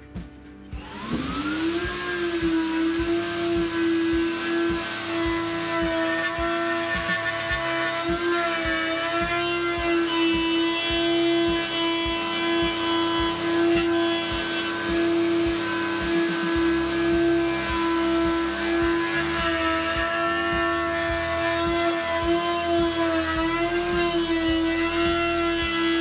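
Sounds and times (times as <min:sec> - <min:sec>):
table saw cutting plywood: 0:00.7 - 0:26.0.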